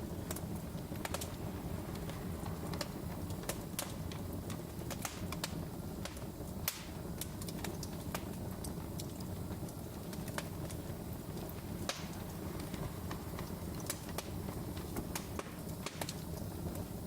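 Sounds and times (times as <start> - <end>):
log fire crackling: 0.0 - 17.0.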